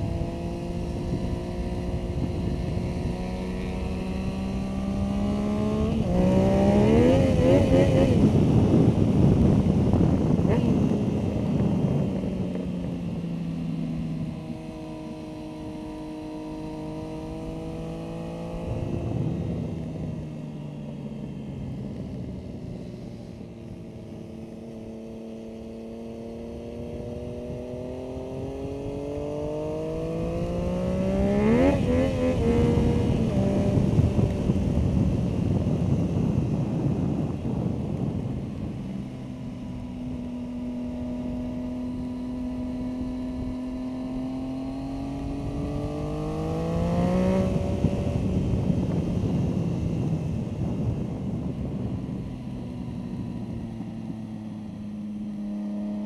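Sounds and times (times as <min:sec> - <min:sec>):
wind rush: 0:00.0 - 0:55.4
motorcycle engine revving: 0:00.0 - 0:56.0.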